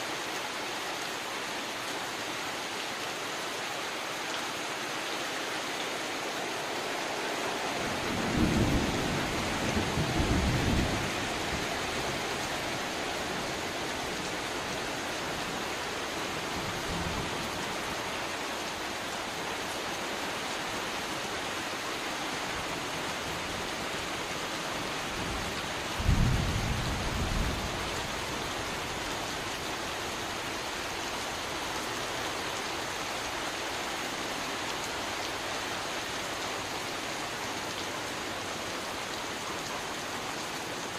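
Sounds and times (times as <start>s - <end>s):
heavy rain on water and tarpaulin: 0.0s - 40.9s.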